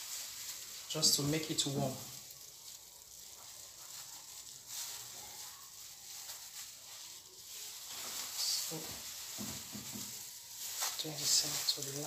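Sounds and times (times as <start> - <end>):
plastic gloves crinkling: 0.0 - 12.0.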